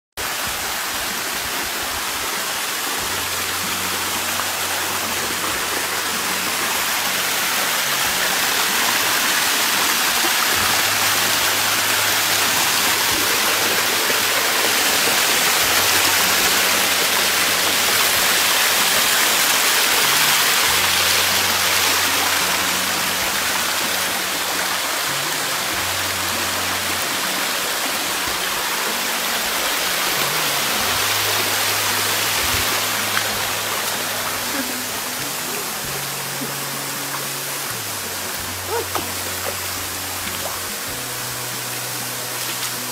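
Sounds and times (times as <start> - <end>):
water rushing over rocks: 0.1 - 42.9.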